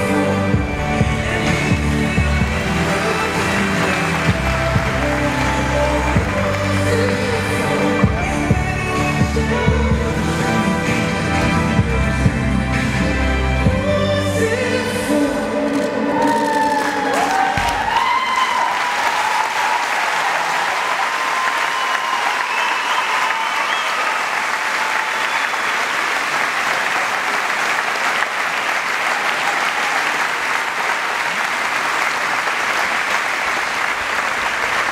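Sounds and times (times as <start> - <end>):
audience applauding: 0.0 - 9.1, 16.0 - 34.9.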